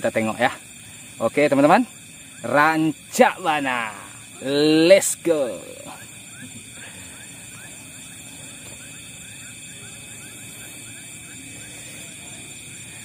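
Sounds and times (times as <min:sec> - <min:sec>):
insects shrilling: 0:00.0 - 0:13.0.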